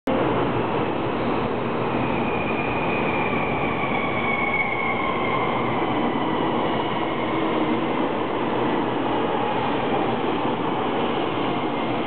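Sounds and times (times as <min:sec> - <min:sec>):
high train whine: 0:00.1 - 0:12.0.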